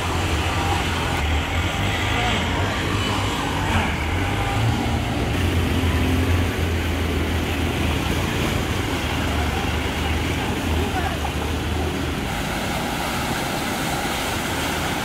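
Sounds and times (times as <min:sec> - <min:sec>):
floodwater rushing down a street: 0:00.0 - 0:15.0.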